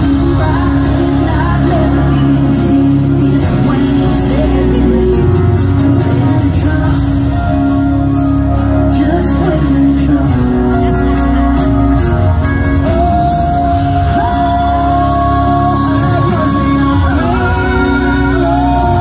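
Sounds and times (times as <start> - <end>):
live country band: 0.0 - 19.0.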